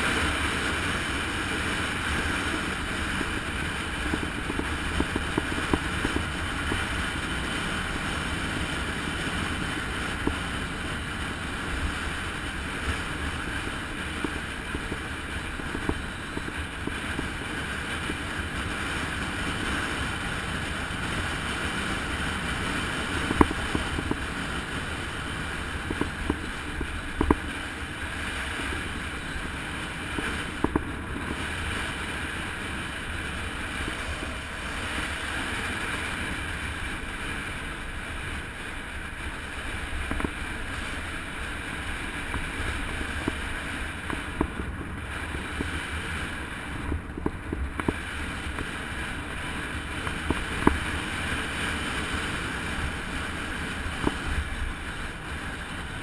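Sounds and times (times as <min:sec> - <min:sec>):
road rumble: 0:00.0 - 0:56.0
wind rushing on microphone: 0:00.0 - 0:56.0.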